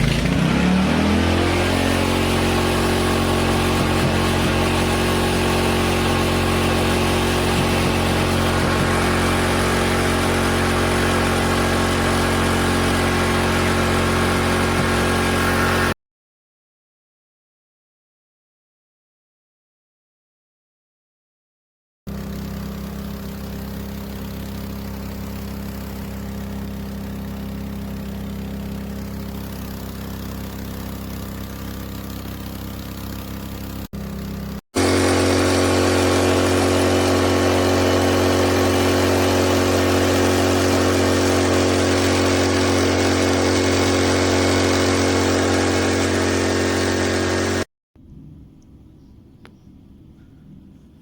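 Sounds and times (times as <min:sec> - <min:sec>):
generator engine running: 0:00.0 - 0:16.0, 0:22.1 - 0:48.6.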